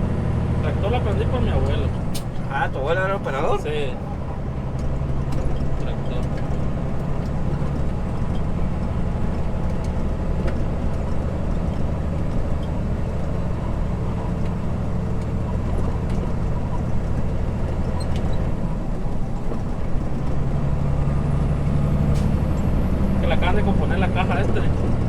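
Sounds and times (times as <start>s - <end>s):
road noise: 0.0s - 25.0s
truck diesel engine running: 0.0s - 25.0s.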